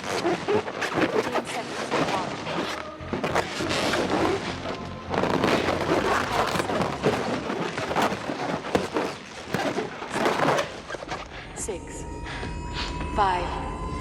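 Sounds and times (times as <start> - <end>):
rushing crackling noise: 0.0 - 11.4.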